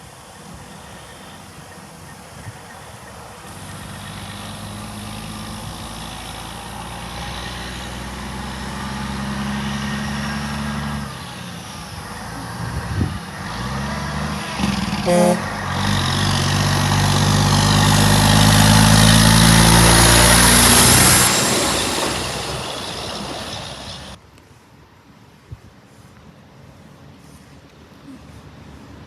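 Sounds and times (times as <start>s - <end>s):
engine: 0.0s - 24.2s
truck engine approaching: 0.0s - 24.2s.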